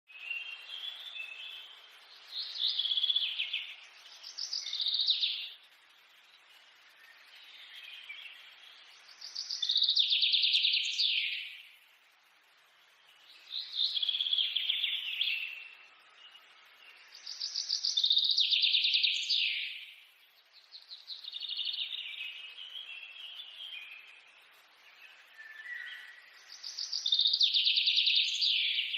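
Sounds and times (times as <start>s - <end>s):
bird chirps: 0.1s - 12.0s, 12.6s - 28.9s.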